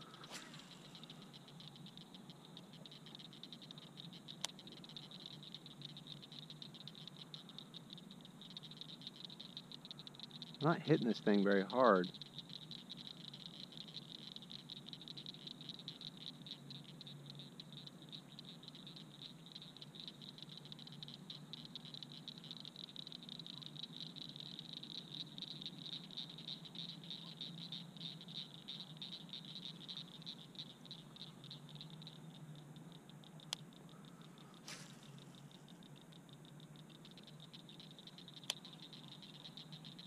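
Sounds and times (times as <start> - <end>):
faint low hum: 0.0 - 40.0
frogs trilling: 0.0 - 40.0.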